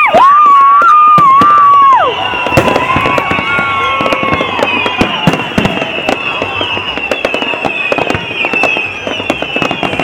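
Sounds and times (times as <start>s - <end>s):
fireworks bangs and pops: 0.0s - 10.0s.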